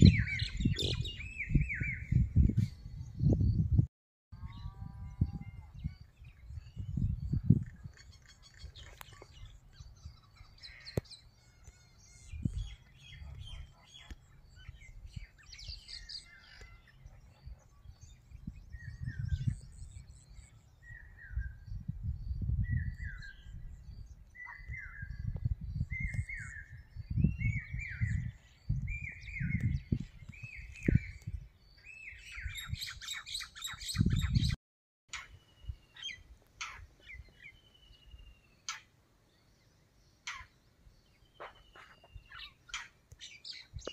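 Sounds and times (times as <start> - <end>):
birds chirping and calling: 0.0 - 3.6, 4.4 - 43.9.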